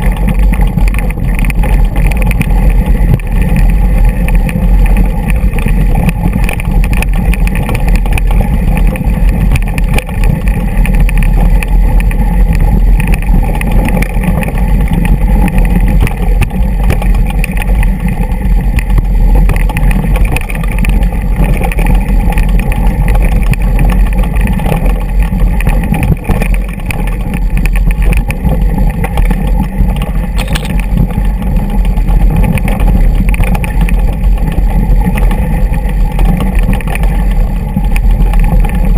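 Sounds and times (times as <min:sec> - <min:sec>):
bike rattling: 0:00.0 - 0:38.9
small clicks: 0:00.0 - 0:38.9
wind rumble on microphone: 0:00.0 - 0:38.9.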